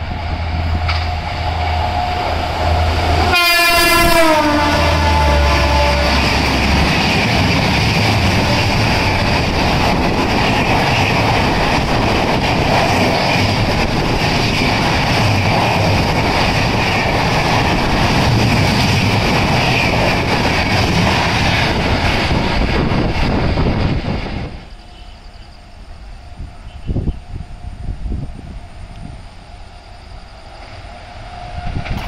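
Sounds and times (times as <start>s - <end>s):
train wheels rushing on rails: 0.0s - 32.0s.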